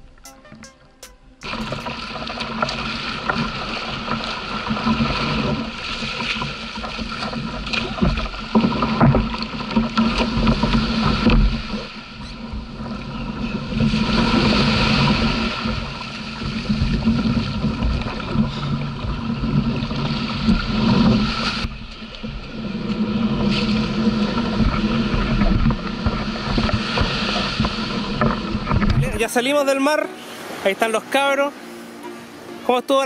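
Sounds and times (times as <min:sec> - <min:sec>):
paddle strokes splashing: 0:00.0 - 0:33.0
surf washing around kayak: 0:01.4 - 0:33.0.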